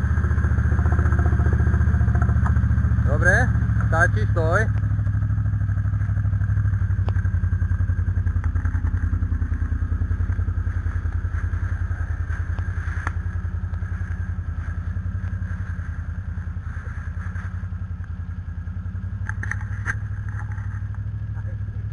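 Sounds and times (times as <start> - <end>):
atv engine idling: 0.0 - 21.9.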